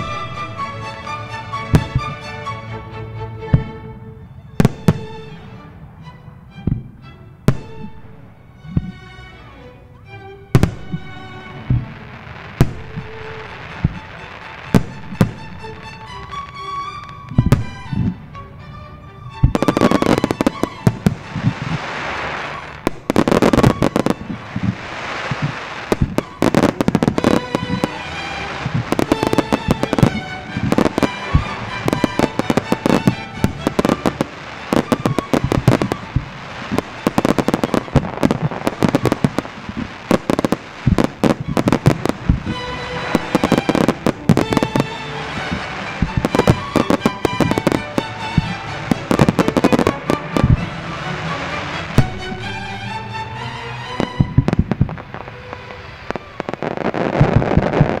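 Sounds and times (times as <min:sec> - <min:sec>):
fireworks bangs and crackles: 0:00.0 - 0:02.4, 0:04.5 - 0:05.6, 0:06.6 - 0:09.1, 0:10.5 - 0:18.3, 0:19.4 - 0:58.0
music: 0:00.0 - 0:58.0.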